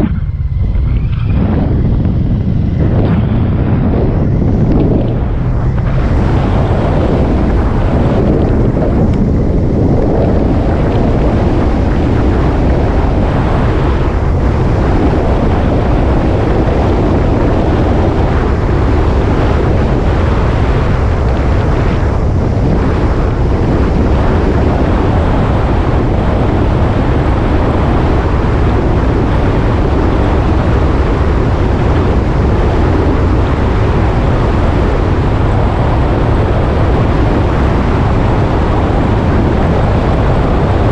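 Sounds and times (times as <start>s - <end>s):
motorcycle engine drone: 0.0s - 40.9s
wind rush on microphone: 0.0s - 40.9s.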